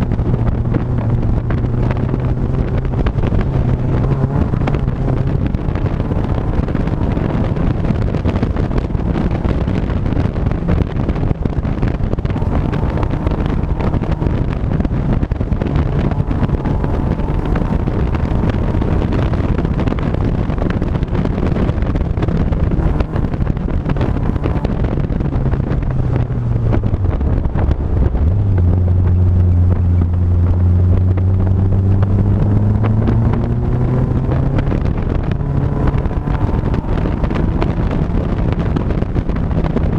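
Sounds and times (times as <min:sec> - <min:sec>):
vehicle engine while driving: 0:00.0 - 0:39.9
wind buffeting microphone: 0:00.0 - 0:39.9.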